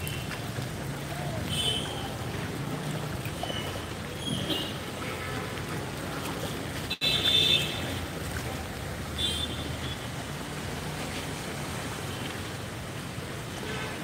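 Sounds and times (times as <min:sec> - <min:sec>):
water churned by tyres: 0:00.0 - 0:14.0.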